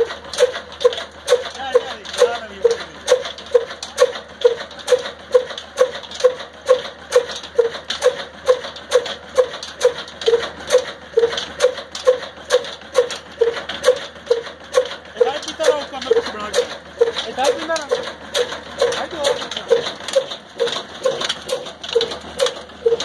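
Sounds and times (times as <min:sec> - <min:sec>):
single-cylinder diesel engine running: 0:00.0 - 0:23.0.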